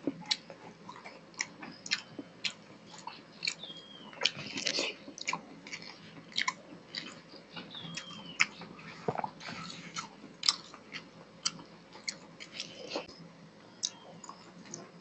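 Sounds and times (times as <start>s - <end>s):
wet chewing and lip smacks: 0.1s - 13.1s.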